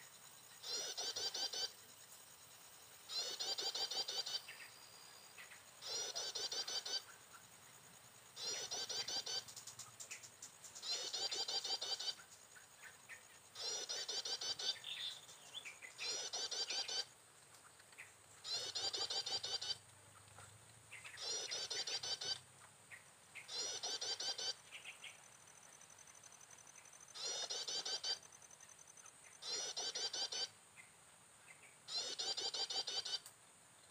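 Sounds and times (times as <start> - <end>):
bird chirping: 0.0 - 33.3.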